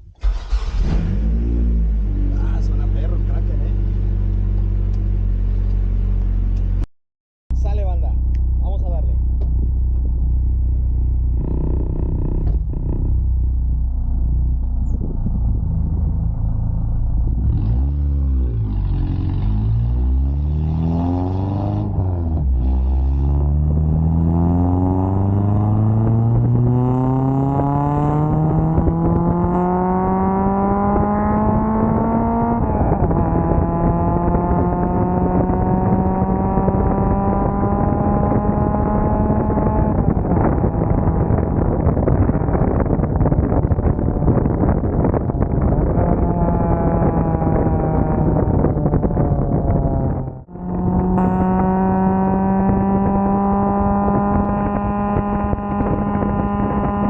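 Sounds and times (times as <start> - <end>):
car engine revving and accelerating: 0.2 - 6.8, 9.4 - 57.0.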